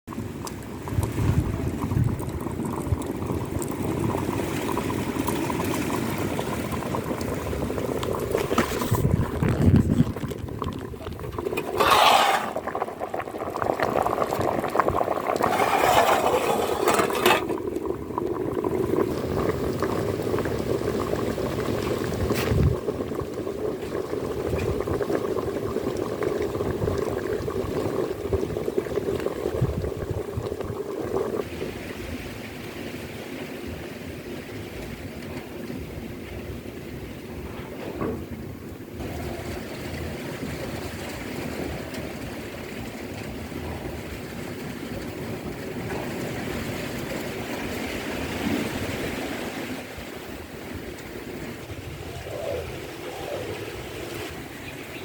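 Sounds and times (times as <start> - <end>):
liquid bubbling: 0.1 - 31.6, 38.9 - 55.0.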